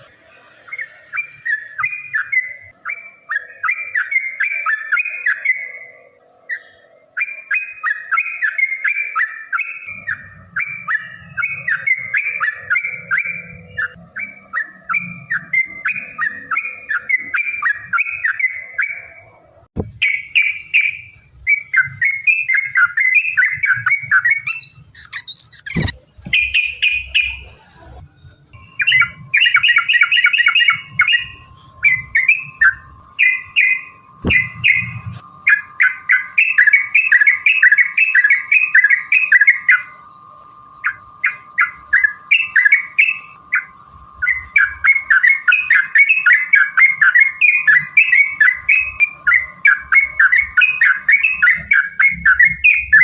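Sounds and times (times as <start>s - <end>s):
bird song chattering: 0.0s - 53.0s
faint steady whine: 0.0s - 53.0s.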